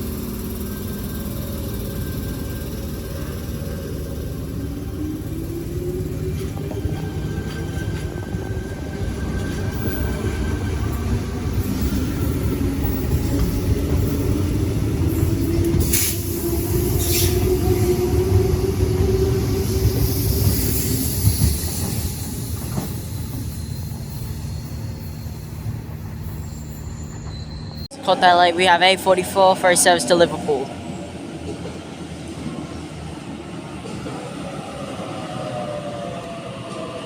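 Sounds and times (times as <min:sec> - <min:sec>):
electric train rumble: 0:00.0 - 0:37.0.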